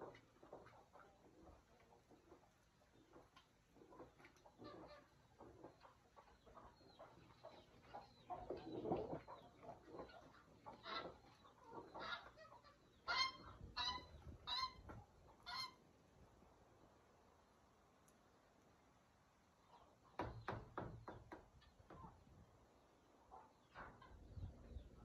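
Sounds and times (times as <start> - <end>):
farm bird calling: 0.0 - 16.0, 19.4 - 25.0.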